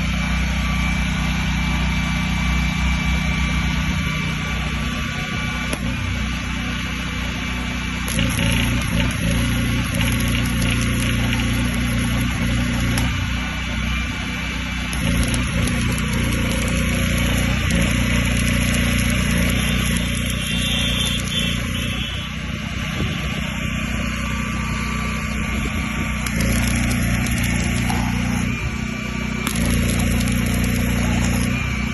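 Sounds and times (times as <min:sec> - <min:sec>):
generator engine running: 0:00.0 - 0:31.9.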